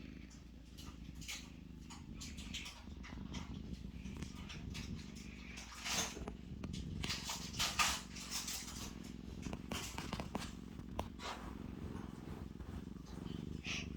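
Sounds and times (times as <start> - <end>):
cat purring: 0.0 - 13.9
rustles and small clicks: 0.2 - 13.9.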